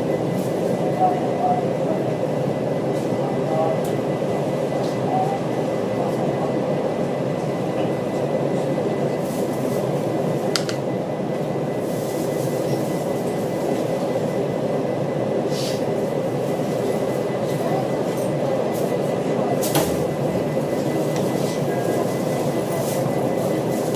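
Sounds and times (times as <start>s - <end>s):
air-conditioning hum: 0.0s - 23.9s.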